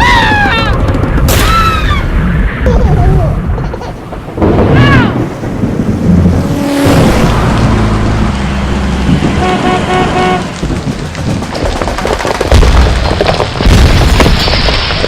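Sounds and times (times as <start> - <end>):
deep rumbling booms: 0.2 - 15.0.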